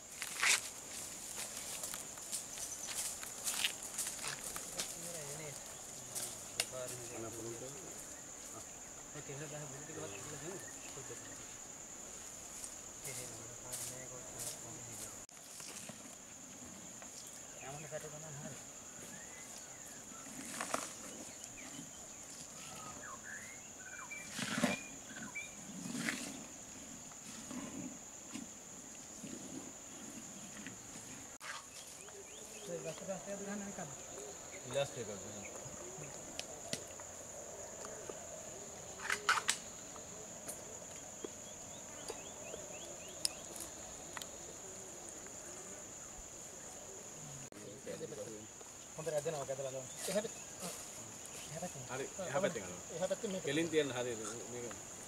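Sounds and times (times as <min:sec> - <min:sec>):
high insect drone: 0:00.0 - 0:55.0.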